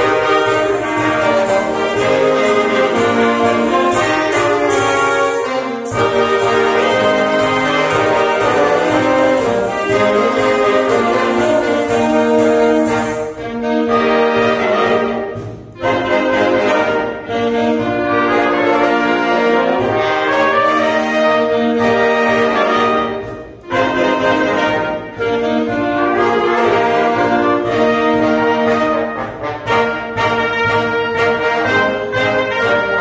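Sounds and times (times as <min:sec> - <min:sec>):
wind band playing a hymn: 0:00.0 - 0:33.0.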